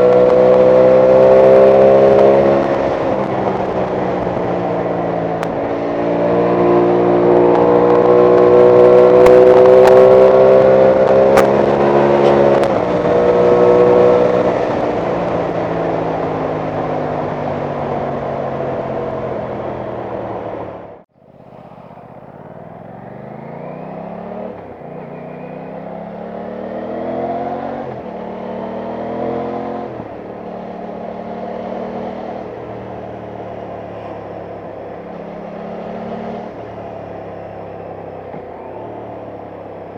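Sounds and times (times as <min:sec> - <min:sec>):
gear changes: 0:00.0 - 0:39.9
motorcycle engine revving: 0:00.0 - 0:39.9.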